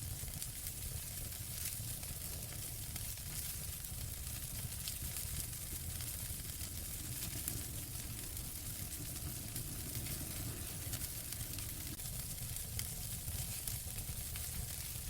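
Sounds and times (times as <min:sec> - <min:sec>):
fire crackles and pops: 0:00.0 - 0:15.0
fire flames hissing and rumbling: 0:00.0 - 0:15.0.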